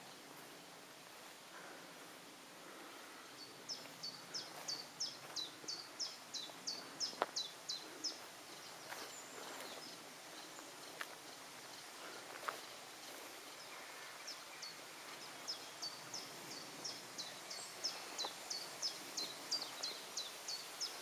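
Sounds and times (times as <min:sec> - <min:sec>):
faint outdoor background hiss: 0:00.0 - 0:21.0.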